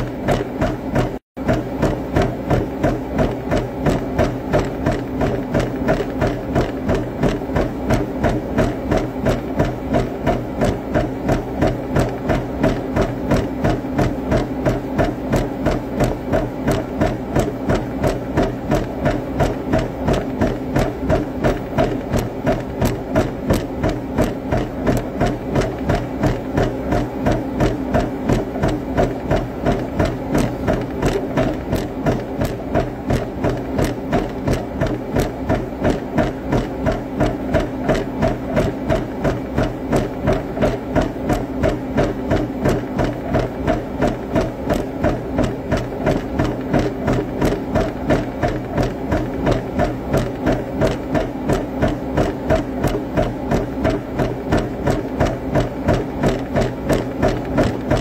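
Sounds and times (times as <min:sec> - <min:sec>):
footfalls on treadmill: 0:00.0 - 0:58.0
treadmill motor hum: 0:00.0 - 0:58.0.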